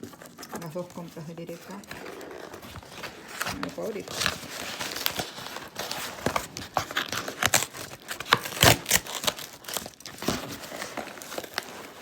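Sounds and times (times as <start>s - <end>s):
parcel packaging crinkling: 0.0s - 12.0s.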